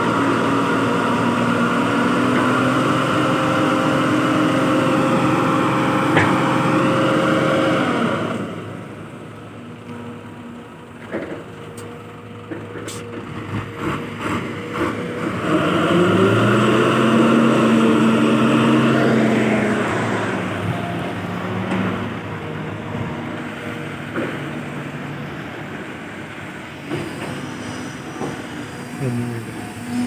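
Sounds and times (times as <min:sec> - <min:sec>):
excavator diesel engine digging: 0:00.0 - 0:30.0.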